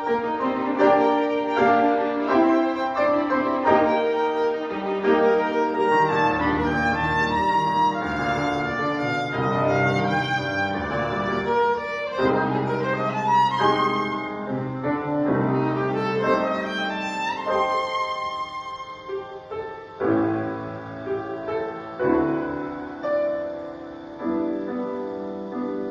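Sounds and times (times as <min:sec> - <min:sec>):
piano accompaniment: 0:00.0 - 0:25.9
violin slow melody: 0:00.0 - 0:25.9.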